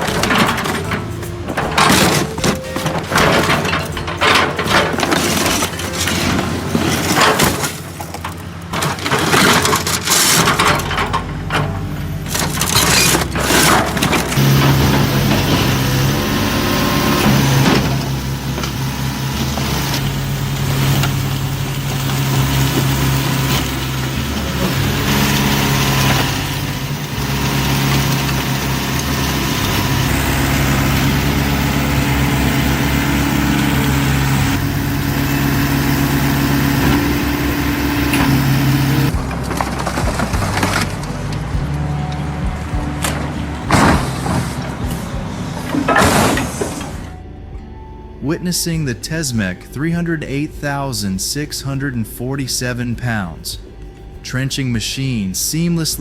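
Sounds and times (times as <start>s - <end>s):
car body crunching and cracking: 0.0s - 47.2s
heavy diesel engine running: 0.0s - 51.9s.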